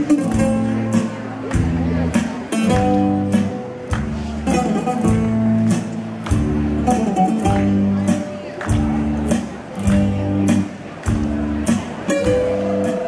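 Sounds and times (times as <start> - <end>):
folk dance music: 0.0 - 13.0.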